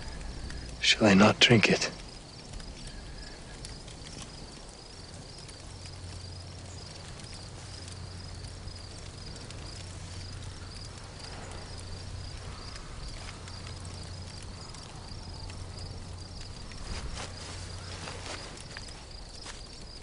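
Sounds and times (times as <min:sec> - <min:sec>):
insects chirping: 0:00.0 - 0:20.0
low steady hum: 0:00.0 - 0:20.0.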